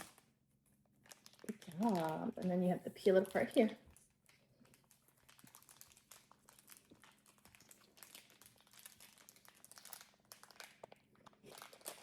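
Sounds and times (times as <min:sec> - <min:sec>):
plastic pouch crinkling: 0:00.0 - 0:12.0.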